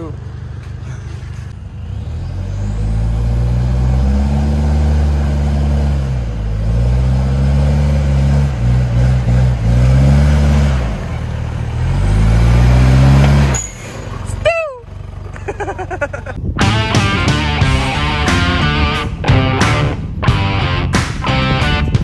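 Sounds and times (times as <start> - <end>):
car engine revving: 1.3 - 14.5, 15.1 - 22.0.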